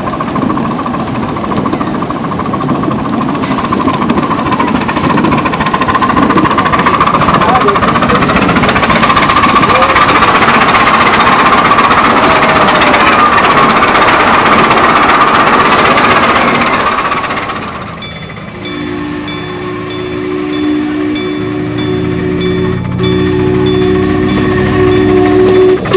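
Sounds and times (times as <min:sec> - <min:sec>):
steam locomotive exhaust and wheels: 0:00.0 - 0:25.9.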